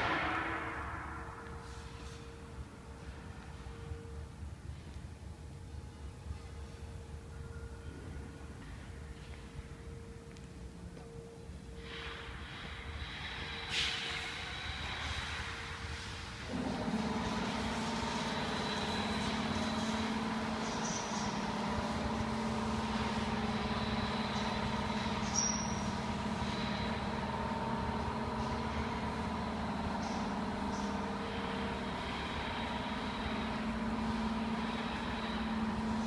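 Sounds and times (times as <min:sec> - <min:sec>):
machinery humming: 0:00.0 - 0:36.0.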